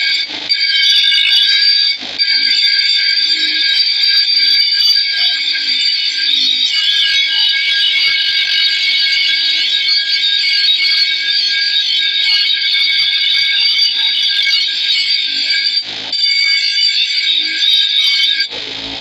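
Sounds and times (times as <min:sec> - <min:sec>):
grinder screeching on steel: 0:00.0 - 0:19.0.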